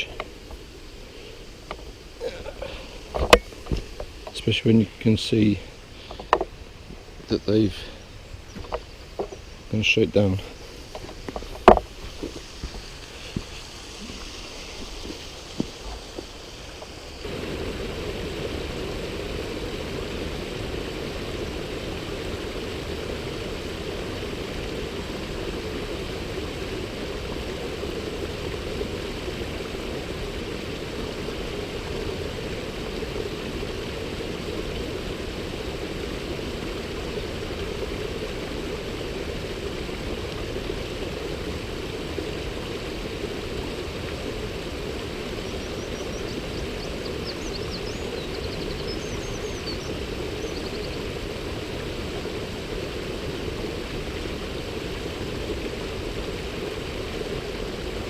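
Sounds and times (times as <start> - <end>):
rushing stream water: 0.0 - 58.0.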